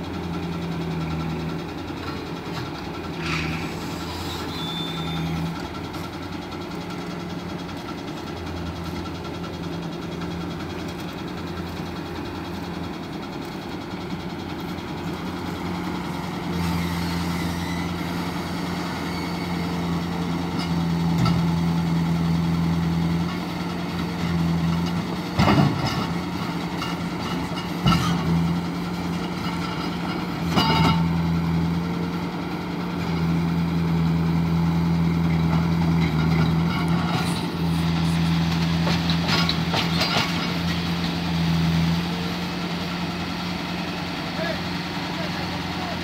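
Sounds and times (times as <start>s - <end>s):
loader diesel engine running: 0.0s - 46.0s.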